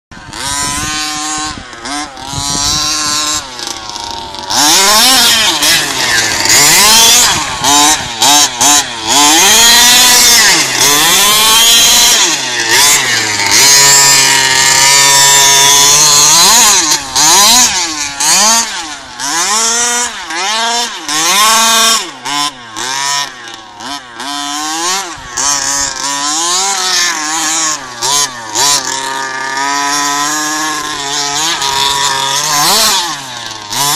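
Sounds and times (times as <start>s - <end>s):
rc car motor revving: 0.2s - 33.9s.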